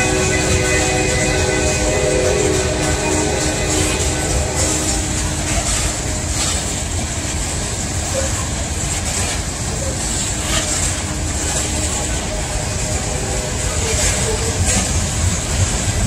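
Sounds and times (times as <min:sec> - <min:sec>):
steel wheels running on rail: 0:00.0 - 0:16.0.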